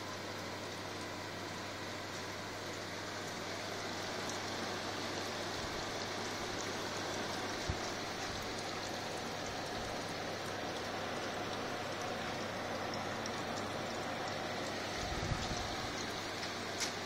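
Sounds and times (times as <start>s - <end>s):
rain-like rushing hiss: 0.0s - 17.0s
refrigeration unit humming: 0.0s - 17.0s.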